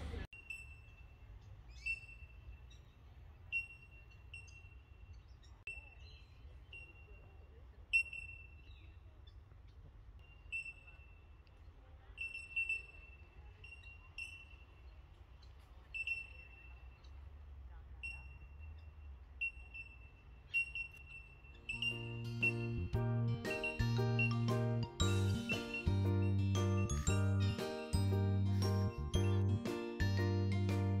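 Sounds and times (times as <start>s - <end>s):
birds calling with ringing notes: 0.3s - 17.3s, 18.0s - 31.0s.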